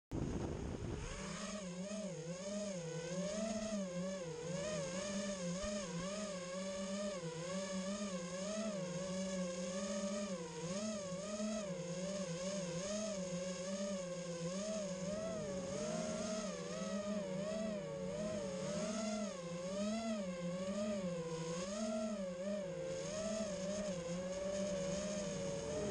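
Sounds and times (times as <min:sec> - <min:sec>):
quadcopter motors whining: 0:00.2 - 0:25.9.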